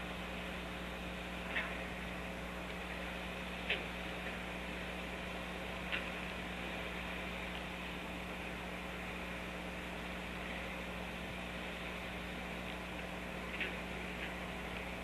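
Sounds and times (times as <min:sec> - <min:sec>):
hum and hiss: 0:00.0 - 0:15.0.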